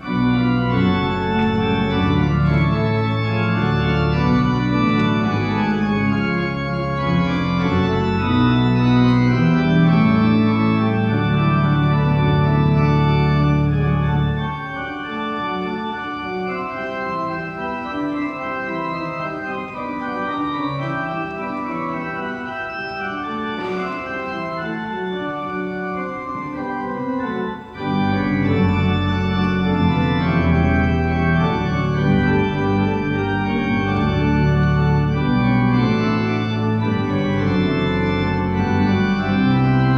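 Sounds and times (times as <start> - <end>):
church organ chords: 0.0 - 39.9
deep organ pedal bass: 0.0 - 39.9.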